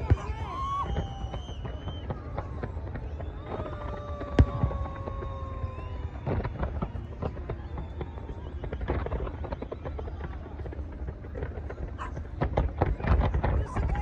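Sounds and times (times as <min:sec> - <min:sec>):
fireworks pops and bangs: 0:00.0 - 0:14.0.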